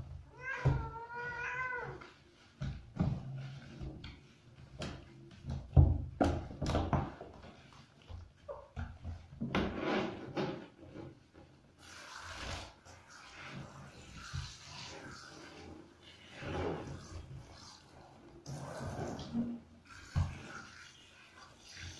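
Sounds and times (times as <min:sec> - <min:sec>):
rubbing and splashing in bathtub: 0:00.0 - 0:21.9.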